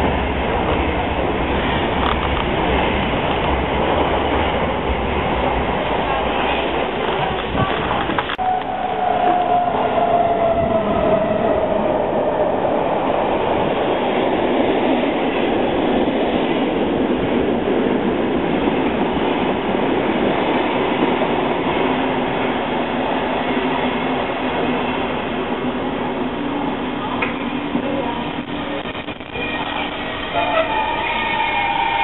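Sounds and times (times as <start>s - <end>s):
train wheel and rail noise: 0.0s - 32.0s.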